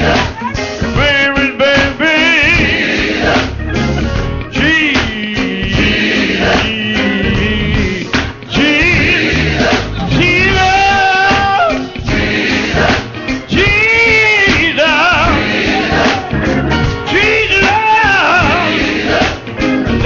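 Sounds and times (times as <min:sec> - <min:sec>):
gospel instrumental backing: 0:00.0 - 0:20.0.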